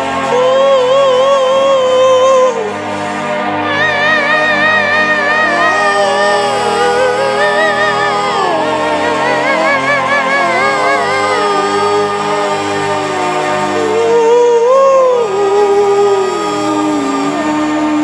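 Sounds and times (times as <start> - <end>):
slow worship music: 0.0 - 18.0.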